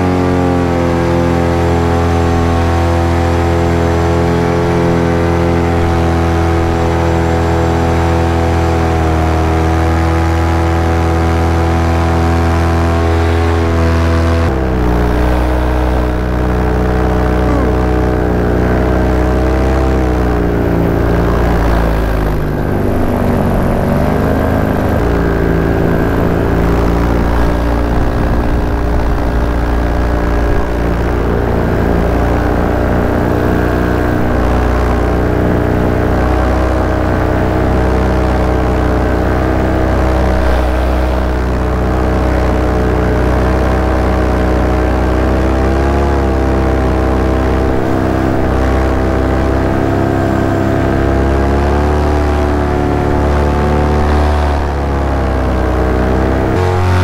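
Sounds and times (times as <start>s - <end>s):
small aircraft engine and propeller: 0.0s - 57.0s.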